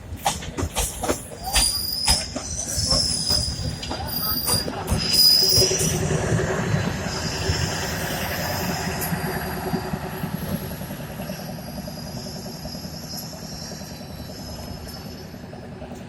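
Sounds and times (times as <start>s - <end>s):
train engine throbbing: 0.0s - 16.0s
train wheels rumbling: 0.0s - 16.0s
faint high wheel squeal: 1.2s - 9.2s, 10.6s - 16.0s.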